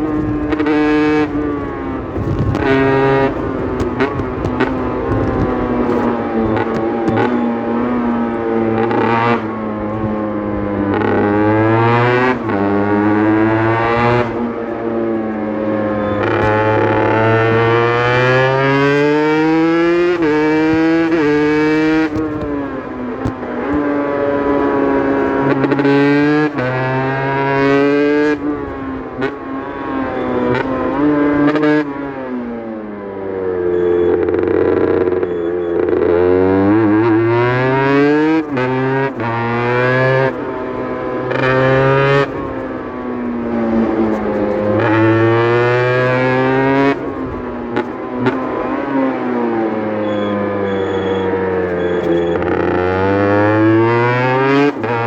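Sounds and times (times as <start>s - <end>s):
two-stroke motorcycle accelerating: 0.0s - 55.0s.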